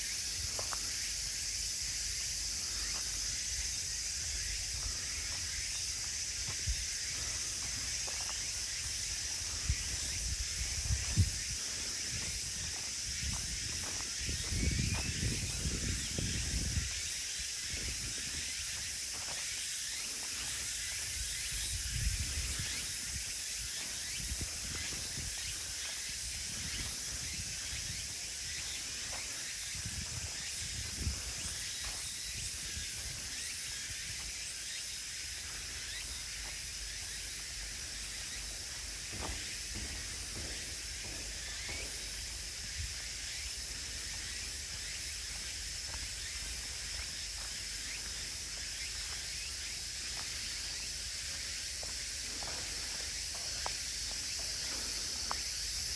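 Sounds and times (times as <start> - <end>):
footsteps on woodland path: 0.0 - 55.9
insects chorus: 0.0 - 55.9.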